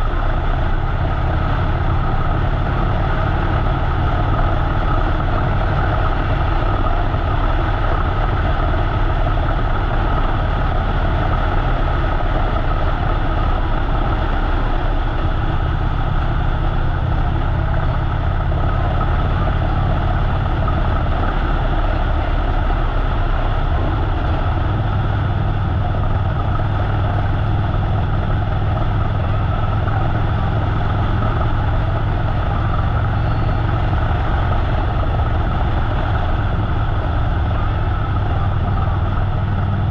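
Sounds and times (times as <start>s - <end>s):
motorcycle engine running: 0.0s - 39.9s
road and air noise: 0.0s - 39.9s.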